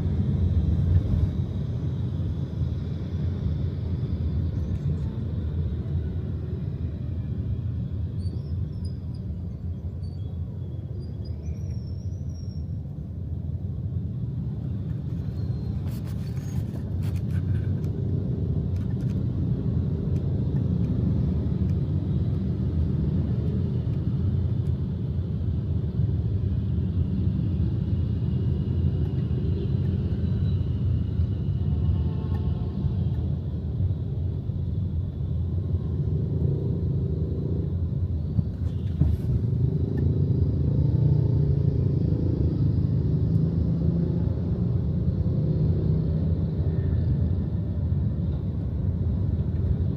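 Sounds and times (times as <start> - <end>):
vehicle rumble in traffic: 0.0 - 49.9.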